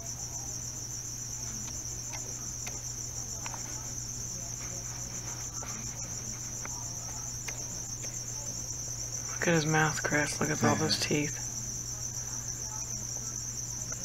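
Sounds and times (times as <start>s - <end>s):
cricket trilling: 0.0s - 14.0s
low steady hum: 0.0s - 14.0s.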